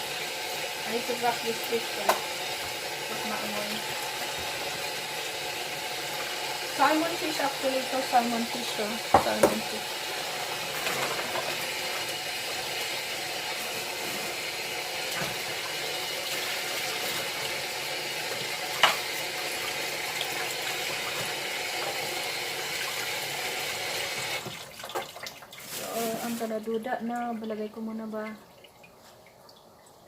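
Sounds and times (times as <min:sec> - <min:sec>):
tap water running into sink: 0:00.0 - 0:30.0.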